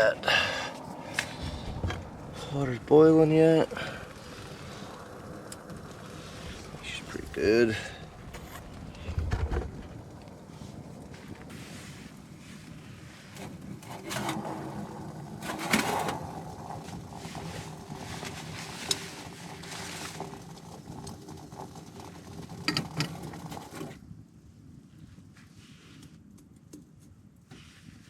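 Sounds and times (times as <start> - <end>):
water boiling in pot: 0.0 - 24.0.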